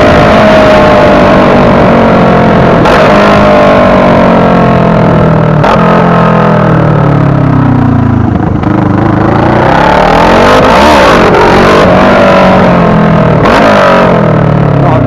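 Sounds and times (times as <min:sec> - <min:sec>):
motorcycle engine revving: 0:00.0 - 0:15.0
wind and road noise: 0:00.0 - 0:15.0.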